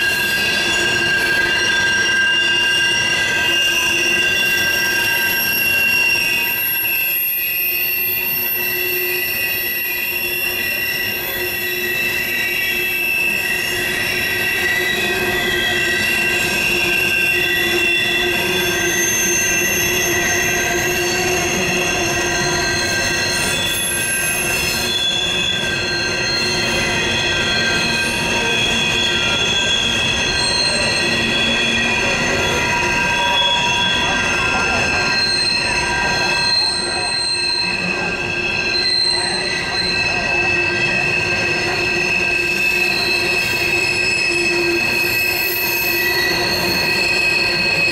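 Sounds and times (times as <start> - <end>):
low train rumble: 0.0 - 47.9
steel wheels squealing: 0.0 - 47.9.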